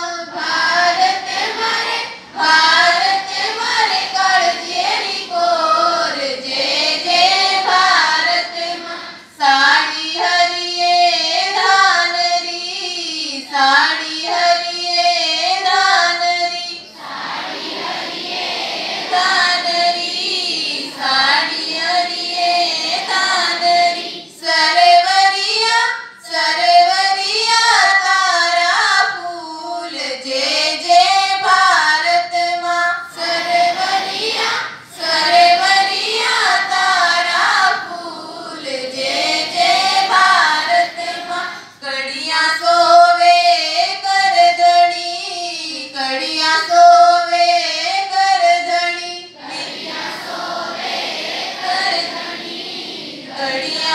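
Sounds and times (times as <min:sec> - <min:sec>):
children singing a prayer: 0:00.0 - 0:53.9.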